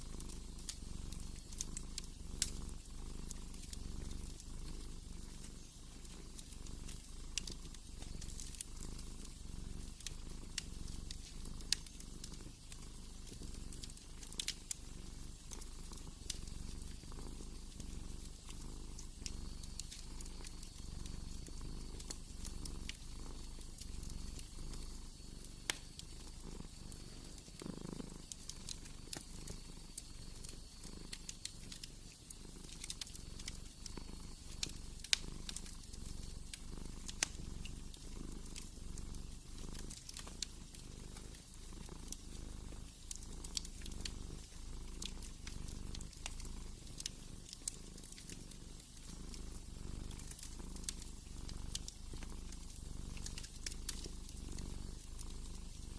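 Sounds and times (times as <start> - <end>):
cat purring: 0.0 - 55.9
wood fire crackling: 0.0 - 55.9.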